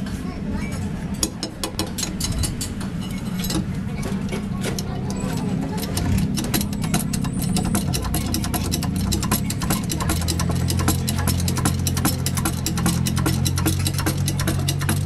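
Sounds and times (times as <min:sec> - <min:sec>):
tools clicking and knocking on metal: 0:01.1 - 0:15.0.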